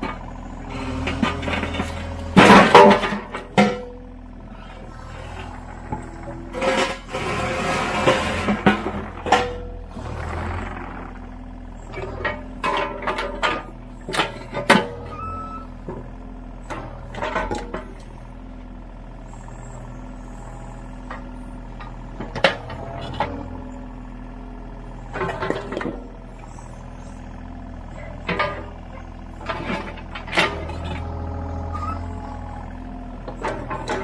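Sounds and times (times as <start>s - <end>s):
excavator diesel engine running: 0.0s - 34.0s
hydraulic whine: 0.0s - 34.0s.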